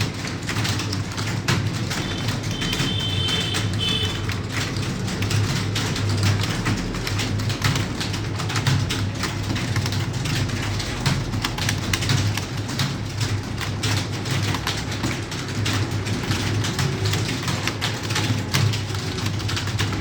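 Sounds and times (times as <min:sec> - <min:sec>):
fast typing on keyboard: 0:00.0 - 0:20.0.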